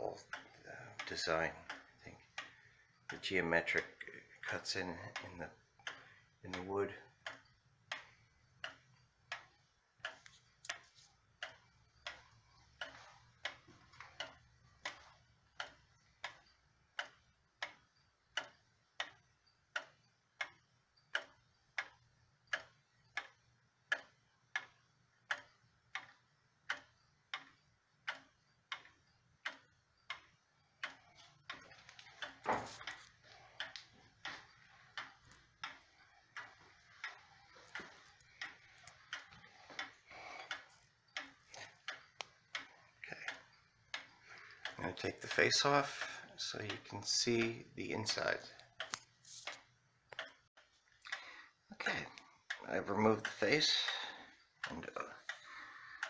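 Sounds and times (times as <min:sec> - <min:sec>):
pendulum clock ticking: 0:00.0 - 0:56.0.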